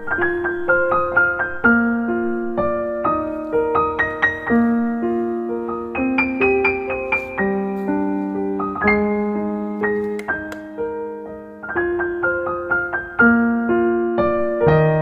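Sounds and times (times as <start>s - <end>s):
solo piano alarm tone: 0.0s - 10.0s, 11.0s - 15.0s.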